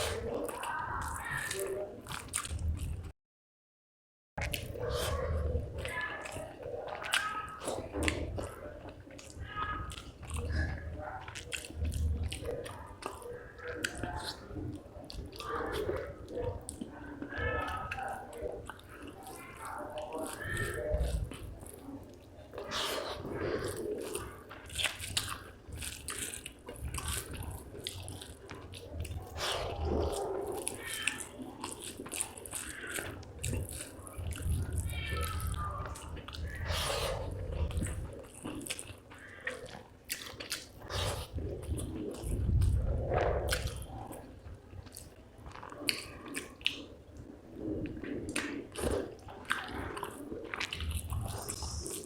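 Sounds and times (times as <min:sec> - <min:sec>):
wet chewing and lip-smacking: 0:00.0 - 0:03.1, 0:04.4 - 0:52.0.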